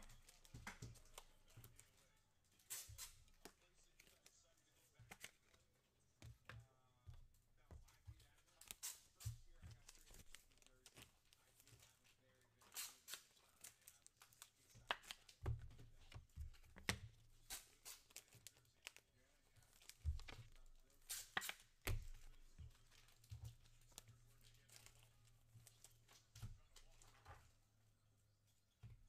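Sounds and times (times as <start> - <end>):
cards rustling and clicking: 0.0 - 27.6.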